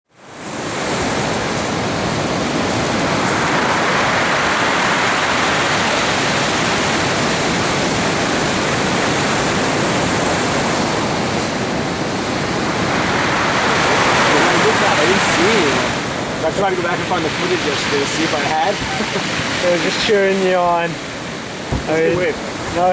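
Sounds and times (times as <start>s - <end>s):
ocean surf rushing: 0.2s - 22.9s.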